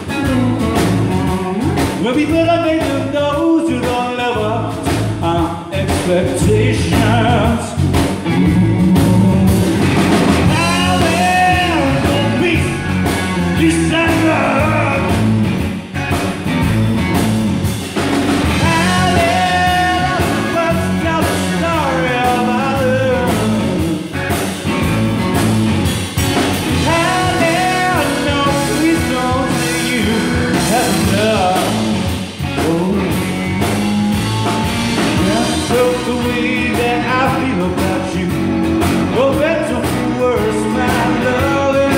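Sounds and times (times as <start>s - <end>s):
man singing: 0.0s - 15.4s, 18.5s - 24.4s, 26.7s - 33.7s, 35.0s - 41.9s
bass guitar: 0.0s - 41.9s
drums: 0.0s - 41.9s
electric guitar: 0.0s - 41.9s.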